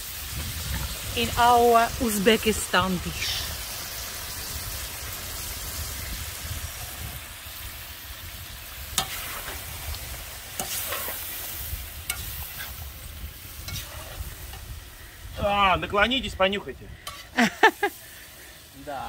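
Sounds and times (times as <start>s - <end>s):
onions and meat sizzling in oil: 0.0s - 19.0s.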